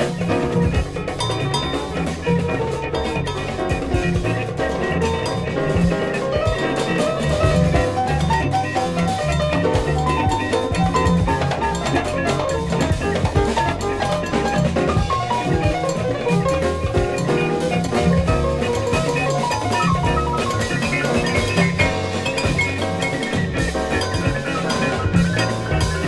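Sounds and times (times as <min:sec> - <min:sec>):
jazz recording from vinyl: 0:00.0 - 0:26.0.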